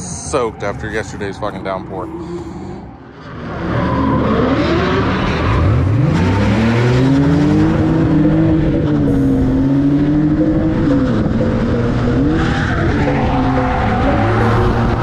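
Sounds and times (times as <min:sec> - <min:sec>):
car engine at high revs: 0:01.4 - 0:15.0.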